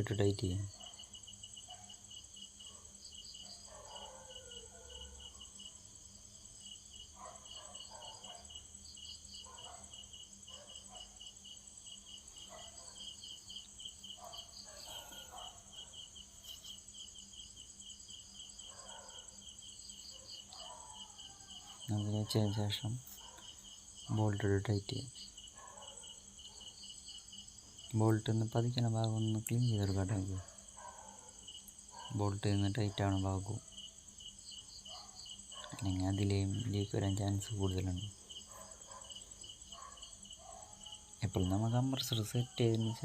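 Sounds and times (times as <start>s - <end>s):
high insect whine: 0.0s - 43.0s
insects chirping: 0.0s - 43.0s.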